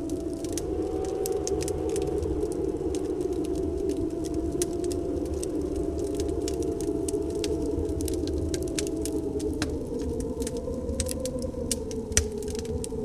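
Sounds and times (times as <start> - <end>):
snowstorm wind: 0.0 - 13.0
wind whistle: 0.0 - 13.0
wood fire crackling: 0.0 - 13.0.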